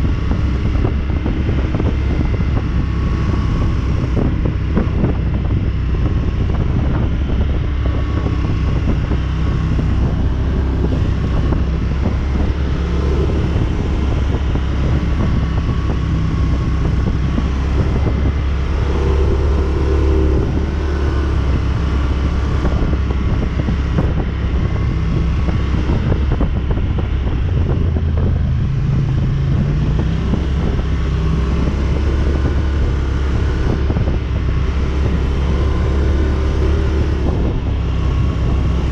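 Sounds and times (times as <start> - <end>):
engine running: 0.0 - 38.9
wind buffeting microphone: 0.0 - 38.9.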